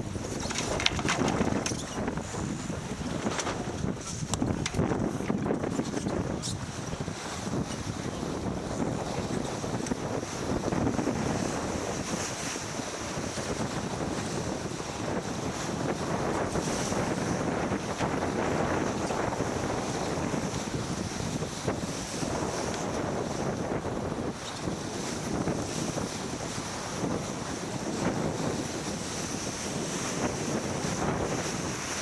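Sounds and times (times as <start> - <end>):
water rushing along boat hull: 0.0 - 32.0
wind buffeting microphone: 0.0 - 32.0.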